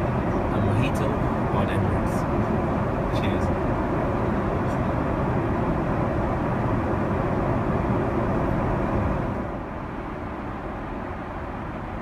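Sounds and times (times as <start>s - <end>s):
airplane cabin noise: 0.0s - 12.0s.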